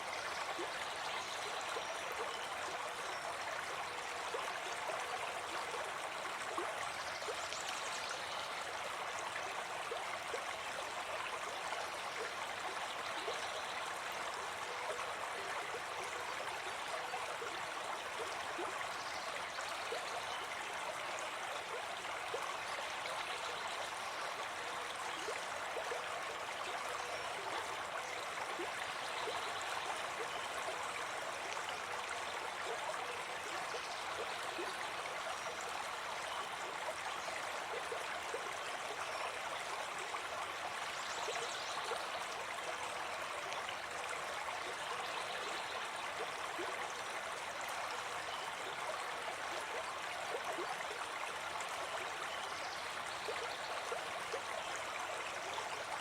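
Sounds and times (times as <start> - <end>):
forest stream running: 0.0 - 56.0.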